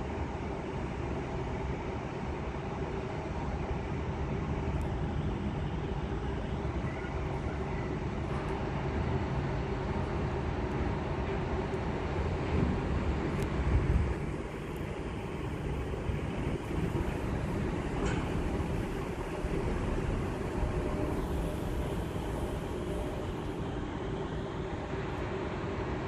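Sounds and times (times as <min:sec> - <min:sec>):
faint steady whine: 0:00.0 - 0:26.0
jet engines rumbling: 0:00.0 - 0:26.0.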